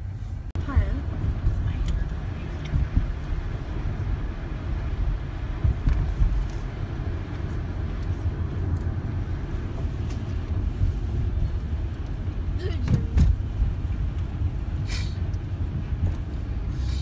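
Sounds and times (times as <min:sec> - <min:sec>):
car driving on wet road: 0:00.0 - 0:17.0.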